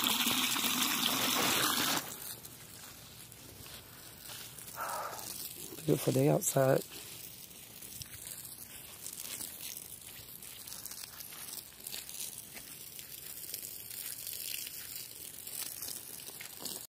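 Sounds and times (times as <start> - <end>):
footsteps rustling through dry grass: 2.1 - 16.8.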